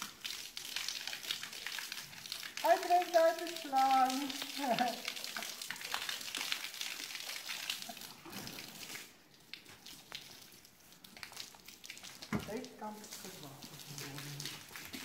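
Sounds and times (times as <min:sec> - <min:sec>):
hose spraying water: 0:00.0 - 0:15.0
water dripping: 0:00.0 - 0:15.0.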